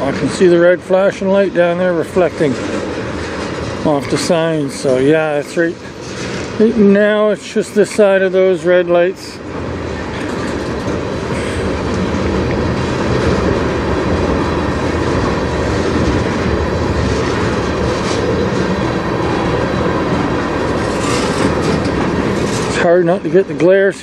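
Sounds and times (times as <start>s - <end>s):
steel wheels rumbling on rails: 0.0s - 24.0s.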